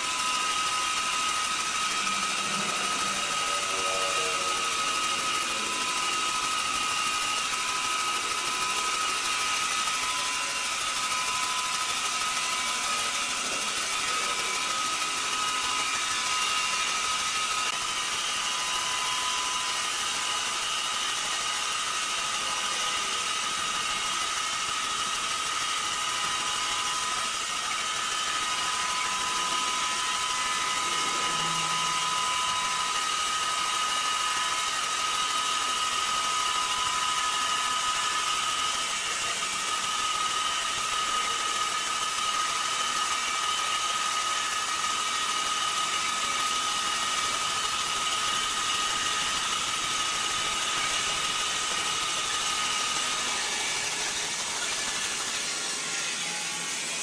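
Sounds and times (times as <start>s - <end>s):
band saw cutting timber: 0.0s - 57.0s.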